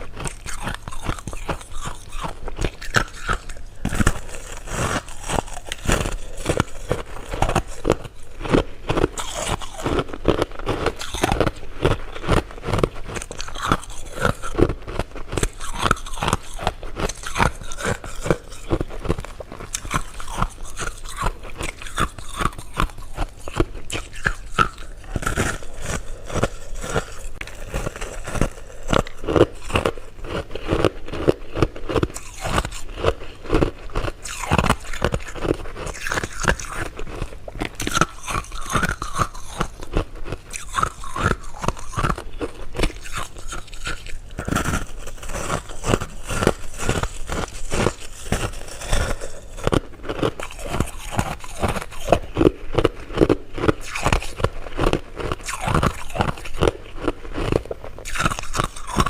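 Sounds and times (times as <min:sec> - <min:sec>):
chewing: 0:00.0 - 0:59.0
crunching candy: 0:00.0 - 0:59.0.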